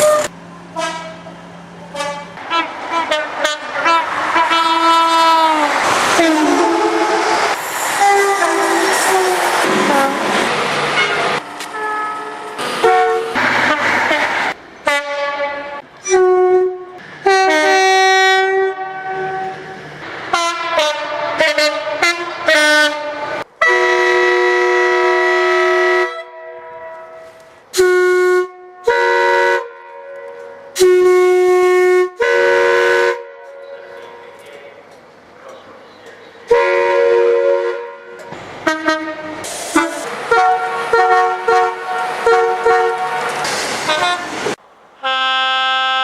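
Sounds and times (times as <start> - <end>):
train horn blasts: 0.0 - 1.3, 1.9 - 10.3, 10.9 - 34.4, 36.5 - 46.0.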